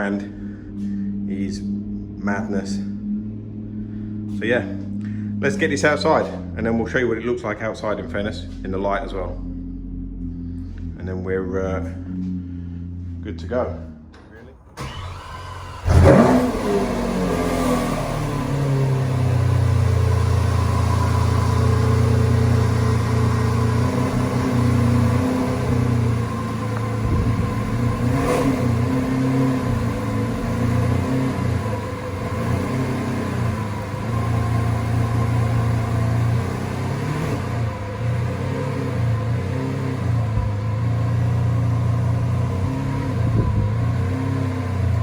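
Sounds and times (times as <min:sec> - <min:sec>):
car engine at low revs: 0:00.0 - 0:45.0.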